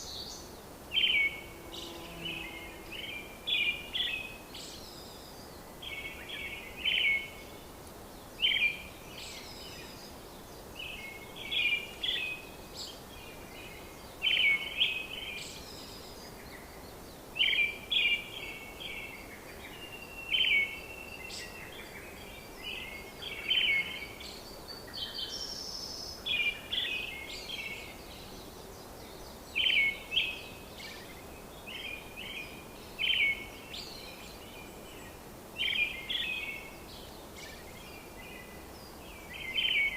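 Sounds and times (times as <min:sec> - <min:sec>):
birds chirping: 0:00.0 - 0:39.9
steady background hiss: 0:00.0 - 0:39.9.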